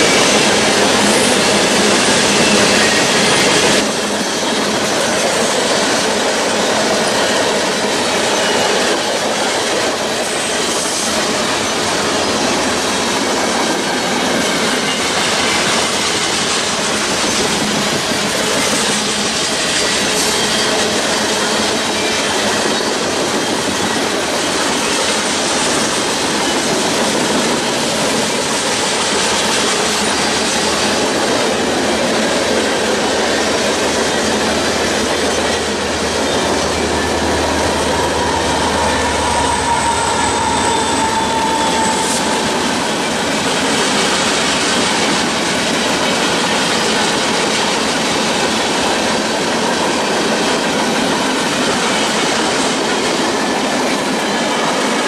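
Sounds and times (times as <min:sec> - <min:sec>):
high wheel squeal: 0:00.0 - 0:09.6, 0:10.2 - 0:45.2
steel wheels on rail: 0:00.0 - 0:55.0.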